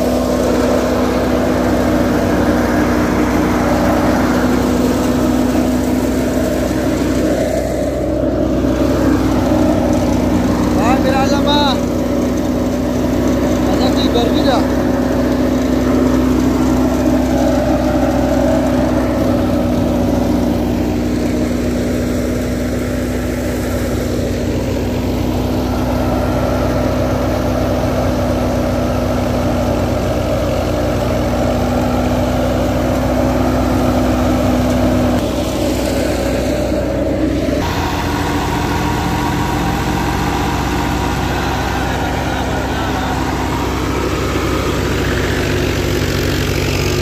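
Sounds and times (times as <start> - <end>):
tractor engine and thresher running: 0.0 - 47.0.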